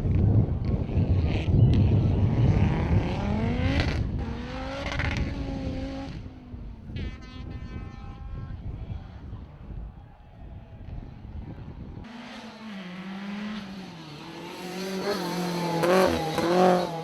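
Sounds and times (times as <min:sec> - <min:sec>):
rally car accelerating: 0:00.0 - 0:09.5, 0:10.9 - 0:17.0.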